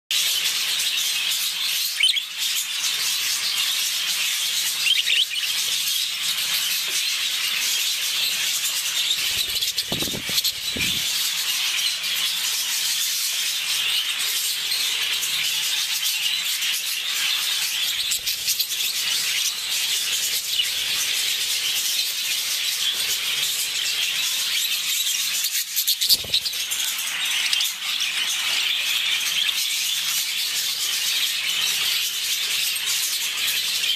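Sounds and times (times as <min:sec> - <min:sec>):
budgerigars chattering: 0:01.2 - 0:33.9.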